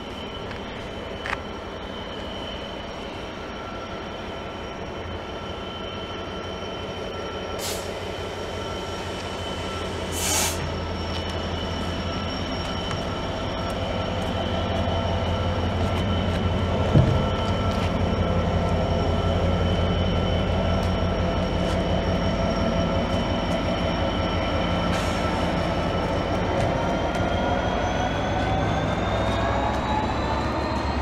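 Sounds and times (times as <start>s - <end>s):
locomotive engine droning: 0.0s - 31.0s.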